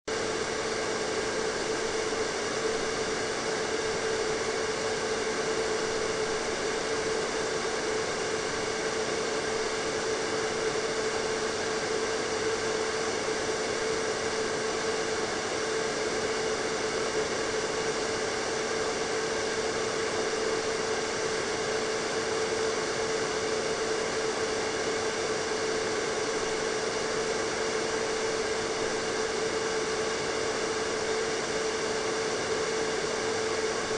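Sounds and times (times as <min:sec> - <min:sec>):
hair dryer running: 0:00.1 - 0:33.9.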